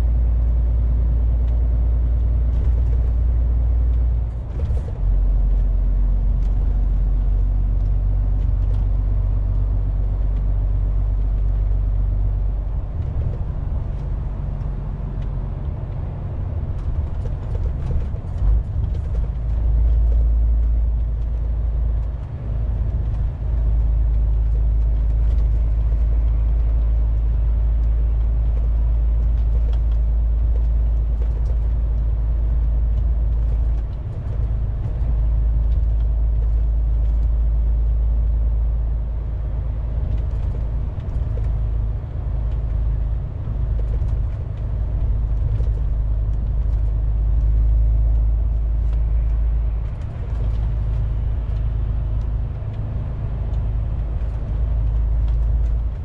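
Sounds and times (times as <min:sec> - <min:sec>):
truck diesel and road rumble: 0:00.0 - 0:56.0.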